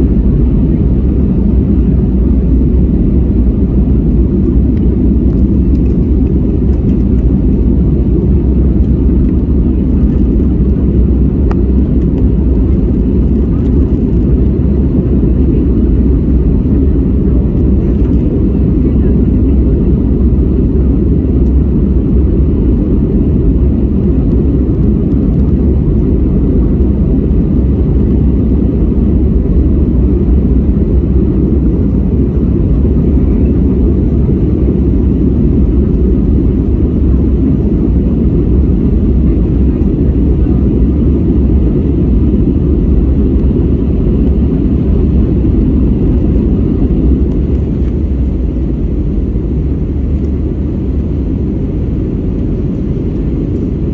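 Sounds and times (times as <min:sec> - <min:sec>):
airliner engine rumble: 0:00.0 - 0:53.9.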